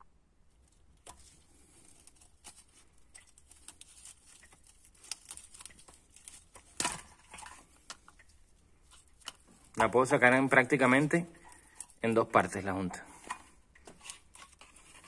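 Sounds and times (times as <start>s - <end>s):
gasket crackling and tearing: 0.5s - 12.6s, 13.2s - 15.0s.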